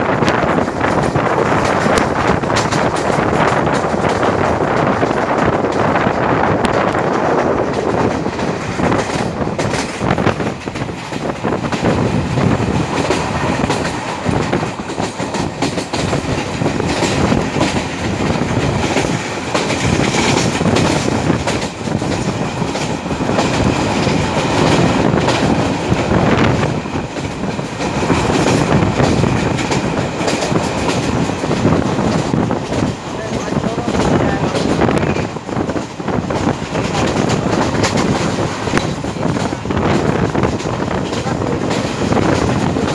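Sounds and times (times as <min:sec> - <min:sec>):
train wheels clattering on rails: 0:00.0 - 0:42.9.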